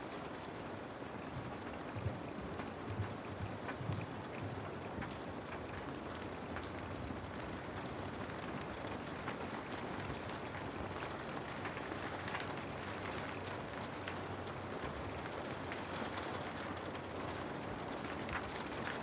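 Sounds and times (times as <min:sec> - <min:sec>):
raindrop ticks: 0:00.0 - 0:19.0
steady rain hiss: 0:00.0 - 0:19.0.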